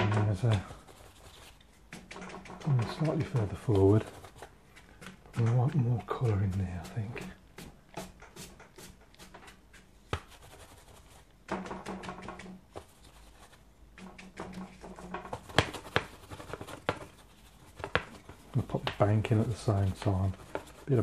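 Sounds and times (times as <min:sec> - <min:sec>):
brush tapping paper: 0:00.0 - 0:21.0
brush strokes on wet paper: 0:00.2 - 0:11.4, 0:12.7 - 0:13.8, 0:14.9 - 0:21.0.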